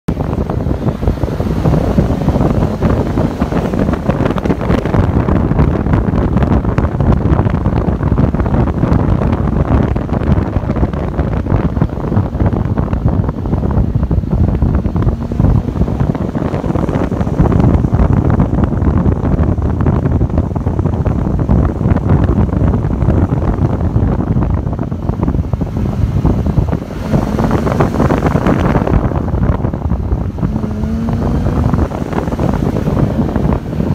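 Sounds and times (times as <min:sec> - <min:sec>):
car road and engine noise: 0:00.0 - 0:33.9
wind buffeting microphone: 0:00.0 - 0:33.9.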